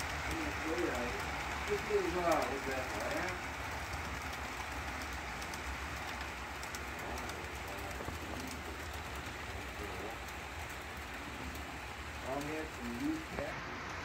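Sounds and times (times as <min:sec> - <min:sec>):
model train rumbling: 0:00.0 - 0:14.0
wheels ticking: 0:00.0 - 0:14.0.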